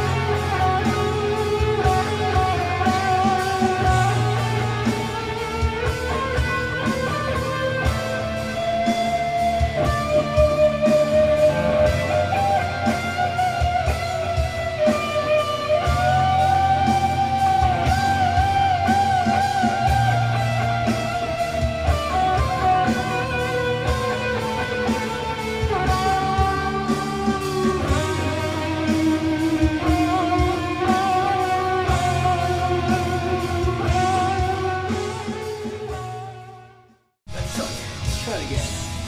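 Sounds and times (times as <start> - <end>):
electric guitar lead notes: 0.0 - 39.0.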